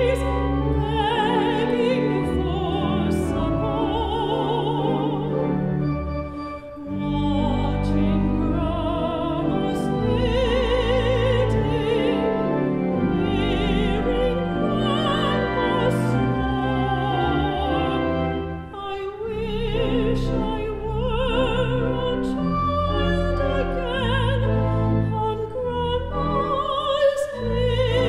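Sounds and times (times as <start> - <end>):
woman singing with vibrato: 0.0 - 5.6, 6.8 - 28.0
organ chords: 0.0 - 28.0.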